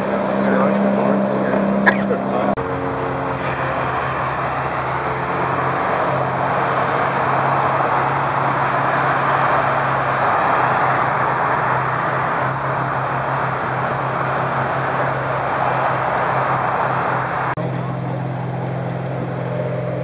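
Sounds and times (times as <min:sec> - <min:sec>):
cars driving past: 0:00.0 - 0:20.0
low engine hum: 0:00.0 - 0:20.0.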